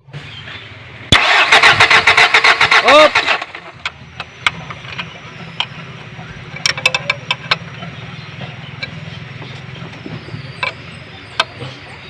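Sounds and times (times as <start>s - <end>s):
engine low drone: 0.0s - 12.0s
sharp metallic clicks: 1.1s - 11.9s.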